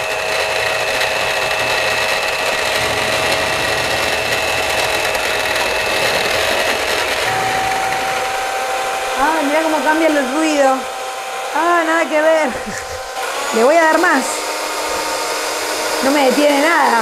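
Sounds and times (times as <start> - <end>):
beaters whipping liquid in bowl: 0.0 - 17.0
electric hand mixer whining: 0.0 - 17.0.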